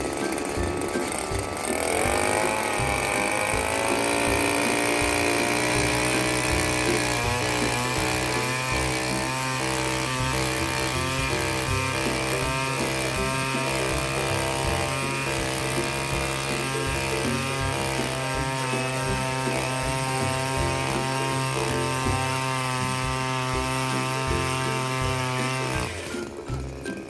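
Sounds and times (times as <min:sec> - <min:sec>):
ice auger engine running: 0:00.0 - 0:27.0.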